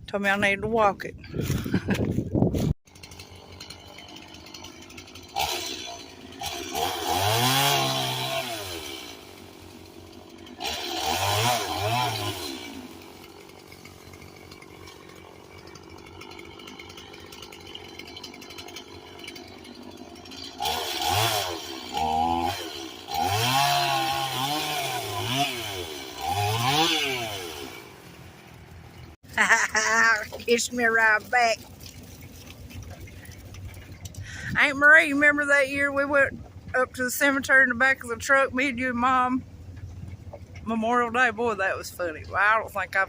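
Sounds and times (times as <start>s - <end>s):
chainsaw revving and idling: 2.9s - 29.2s, 29.8s - 43.0s.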